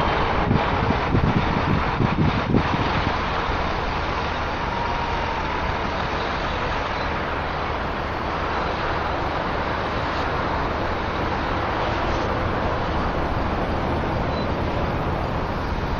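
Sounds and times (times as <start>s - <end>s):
distant diesel truck engine: 0.0s - 15.9s.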